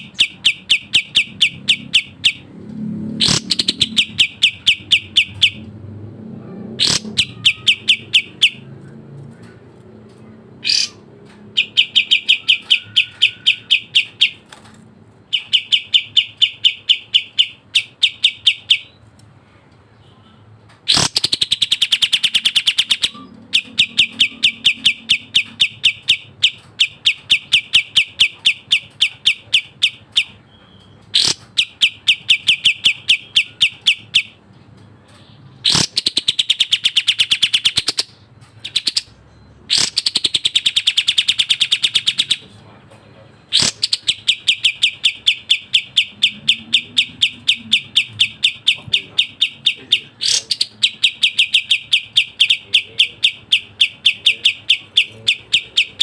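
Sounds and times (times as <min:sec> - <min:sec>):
bird chirping rapidly: 0:00.0 - 0:19.0, 0:20.0 - 0:42.6, 0:43.4 - 0:56.0
bird trilling: 0:00.0 - 0:19.0, 0:20.0 - 0:34.4, 0:35.0 - 0:56.0.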